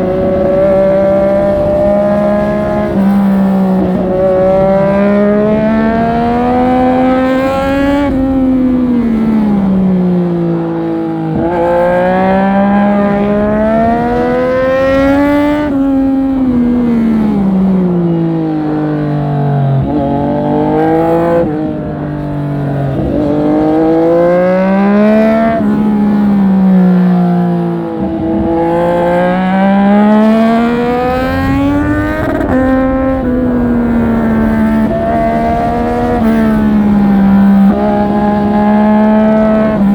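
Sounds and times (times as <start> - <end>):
motorcycle engine revving hard: 0.0 - 18.2, 19.3 - 39.9.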